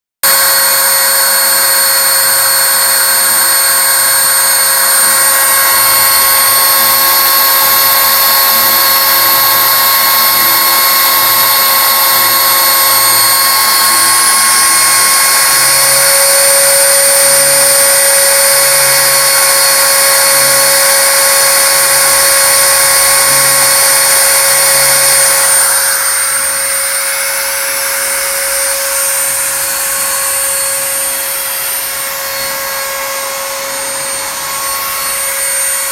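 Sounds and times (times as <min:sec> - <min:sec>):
axis motors humming: 0:00.2 - 0:35.9
router spindle whining: 0:00.2 - 0:35.9.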